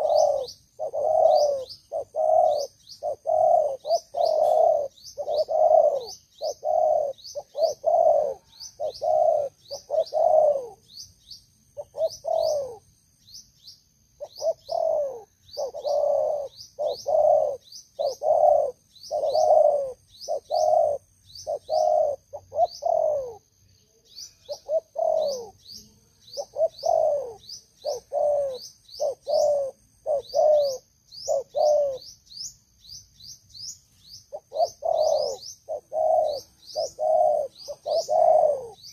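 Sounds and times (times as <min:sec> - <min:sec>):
dove cooing: 0:00.0 - 0:11.0, 0:11.8 - 0:12.9, 0:14.2 - 0:23.5, 0:24.3 - 0:32.1, 0:34.3 - 0:38.9
faint high chirps: 0:00.0 - 0:38.9.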